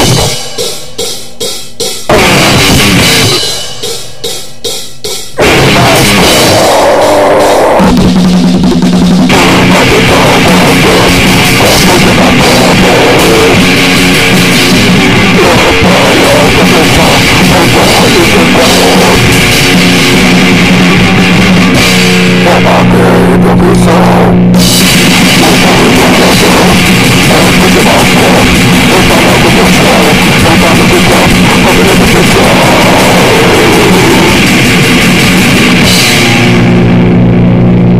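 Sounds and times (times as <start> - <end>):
fuzzed guitar drone: 0.0 - 1.0, 2.1 - 4.2, 5.4 - 37.9
pounding drum kit and cymbals: 0.0 - 37.9.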